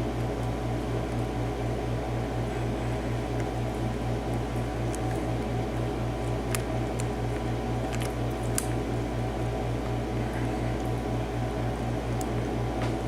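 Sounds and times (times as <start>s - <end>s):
pulsing low machine hum: 0.0s - 13.0s.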